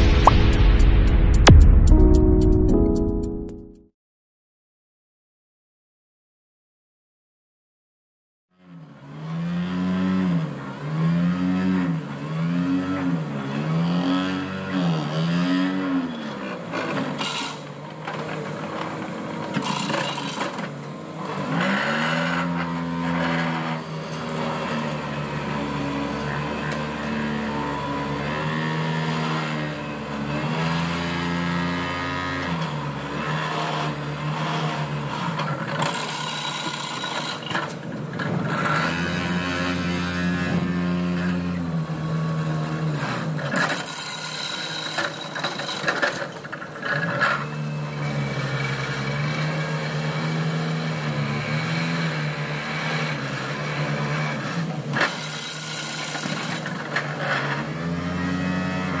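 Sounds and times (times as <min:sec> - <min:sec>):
excavator diesel engines: 0:09.1 - 0:59.0.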